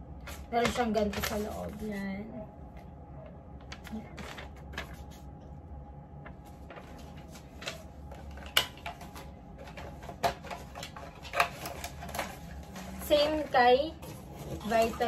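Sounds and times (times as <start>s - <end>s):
low fan hum: 0.0s - 15.0s
paper and packaging rustling: 0.2s - 2.0s, 3.6s - 5.4s, 6.1s - 15.0s.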